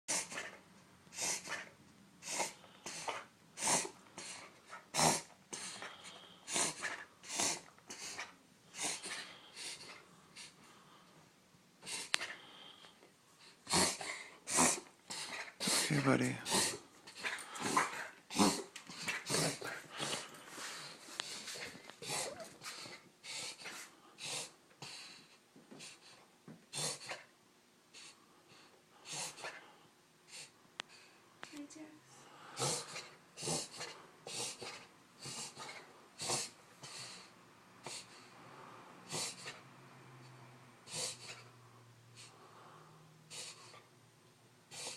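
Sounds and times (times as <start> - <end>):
dog rasping breaths: 0.1 - 10.8, 13.4 - 27.3, 27.9 - 31.2, 32.5 - 41.5, 42.1 - 43.9, 44.7 - 44.9.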